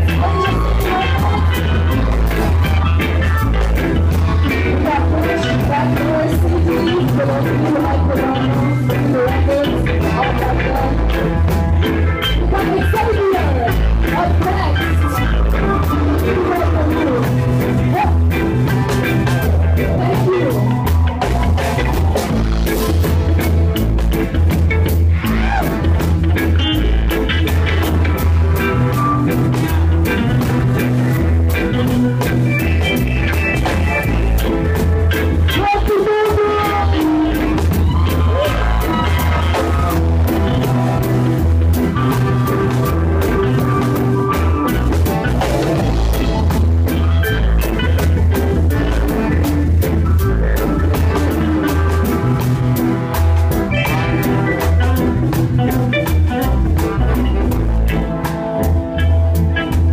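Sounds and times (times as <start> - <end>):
live band music: 0.0 - 59.9.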